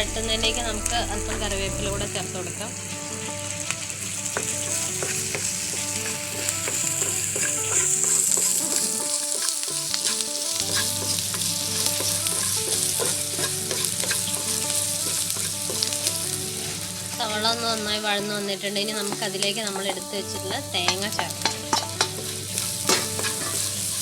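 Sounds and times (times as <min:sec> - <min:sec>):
onions sizzling in a pan: 0:00.0 - 0:24.0
spatula stirring and scraping: 0:03.5 - 0:24.0.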